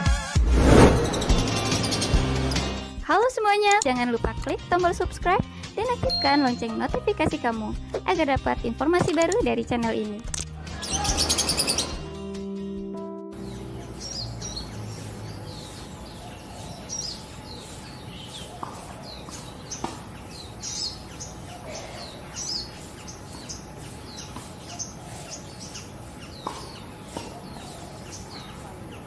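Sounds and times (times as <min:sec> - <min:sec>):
small birds chirping: 0:01.1 - 0:12.2, 0:13.4 - 0:29.0.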